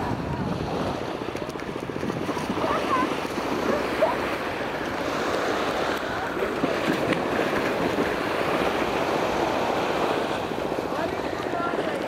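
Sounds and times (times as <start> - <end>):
sea surf: 0.0 - 12.0
wind on microphone: 0.0 - 12.0.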